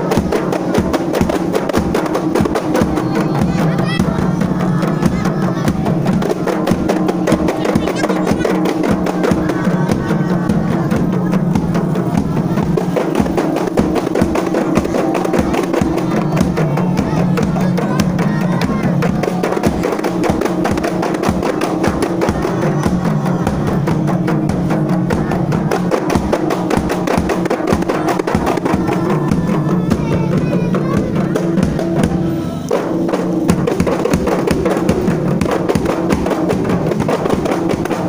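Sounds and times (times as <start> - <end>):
frame drums beaten by hand: 0.0 - 38.0.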